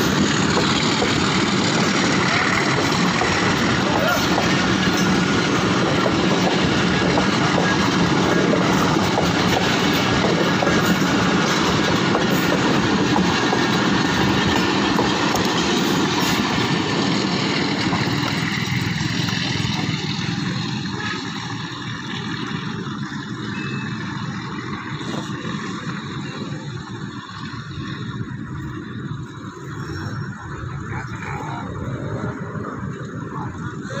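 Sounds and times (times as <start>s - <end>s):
train wheels rolling on track: 0.0s - 34.0s.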